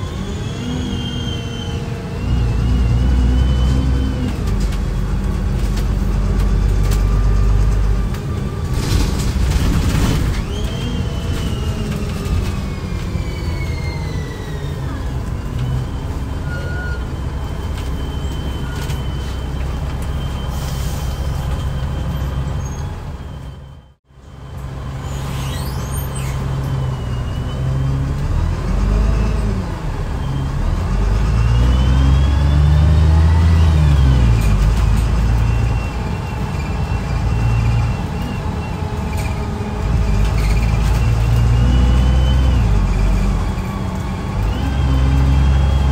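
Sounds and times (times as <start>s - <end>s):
diesel bus engine: 0.0s - 45.9s.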